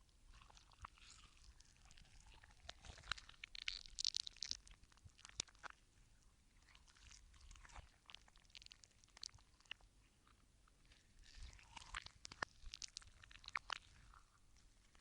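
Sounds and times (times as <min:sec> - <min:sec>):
slime squishing: 0:00.2 - 0:15.0.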